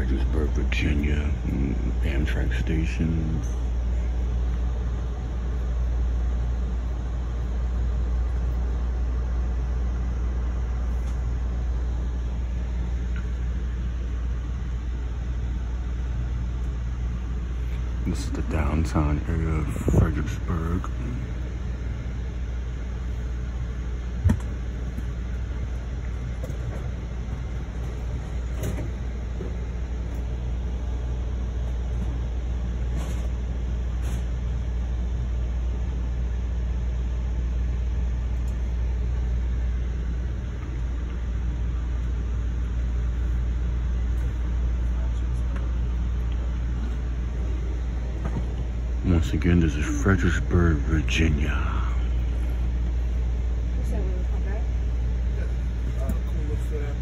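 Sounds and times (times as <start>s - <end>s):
train car rumble and hum: 0.0s - 57.0s.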